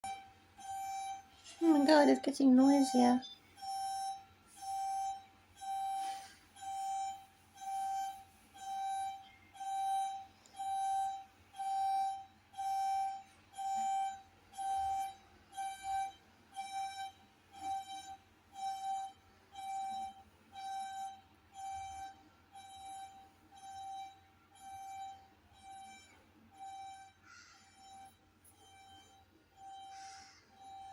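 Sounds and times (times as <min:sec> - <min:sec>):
car alarm beeping: 0:00.0 - 0:30.9.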